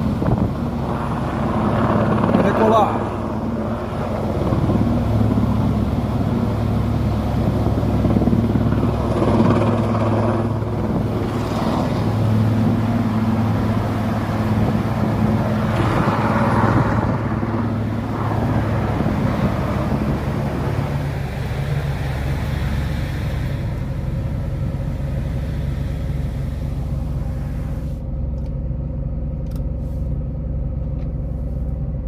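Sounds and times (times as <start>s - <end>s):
helicopter rotor and engine drone: 0.0s - 32.0s.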